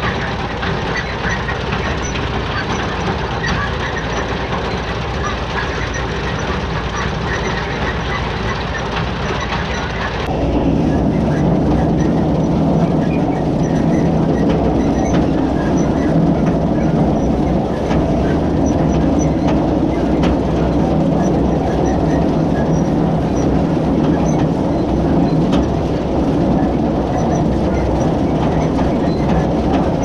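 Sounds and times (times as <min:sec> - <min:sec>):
hay mower rumble and clatter: 0:00.0 - 0:30.0.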